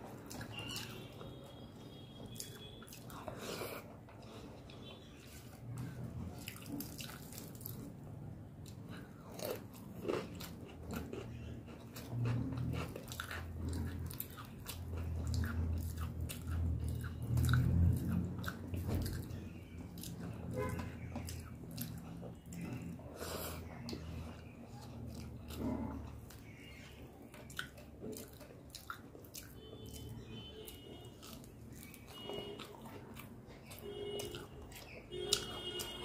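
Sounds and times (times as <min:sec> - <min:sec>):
close chewing and crunching: 0:00.0 - 0:36.0.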